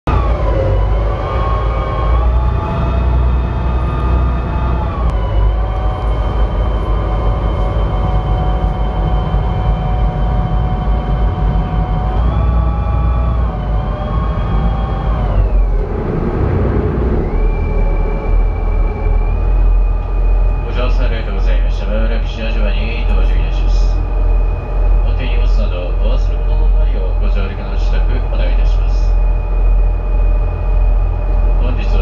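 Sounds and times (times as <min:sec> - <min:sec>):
engine whine: 0:00.0 - 0:32.0
ferry engine low rumble: 0:00.0 - 0:32.0.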